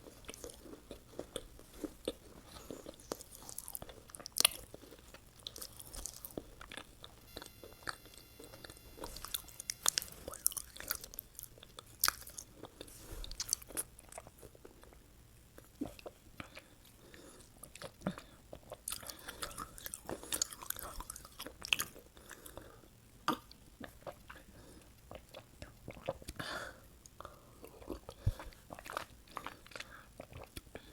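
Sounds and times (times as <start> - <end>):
person chewing crunchy food: 0.0 - 26.4, 27.1 - 30.9.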